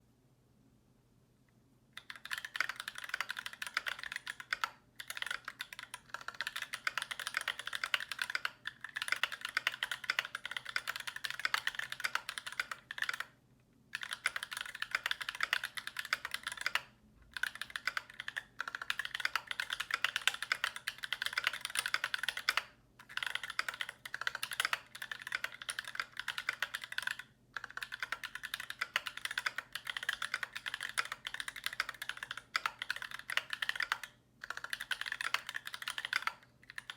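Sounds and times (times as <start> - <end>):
fast typing on mechanical keyboard: 2.0 - 13.3, 13.9 - 36.9.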